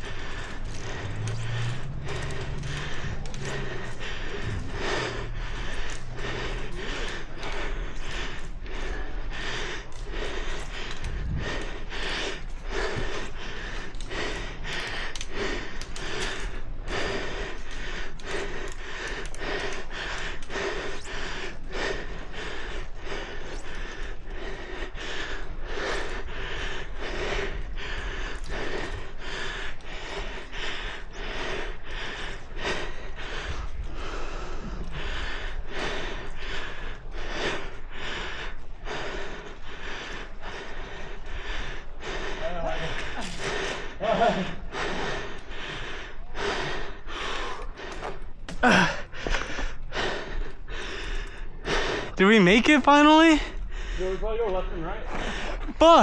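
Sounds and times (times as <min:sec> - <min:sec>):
heavy rapid breathing: 0:00.0 - 0:56.0.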